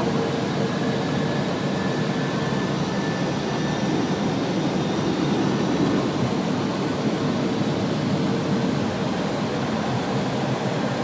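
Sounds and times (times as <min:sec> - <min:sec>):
airflow and jet engines rushing: 0:00.0 - 0:11.0.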